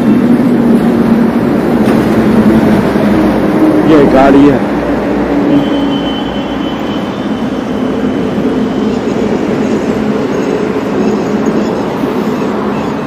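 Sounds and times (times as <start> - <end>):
road vehicle noise: 0.0 - 13.0.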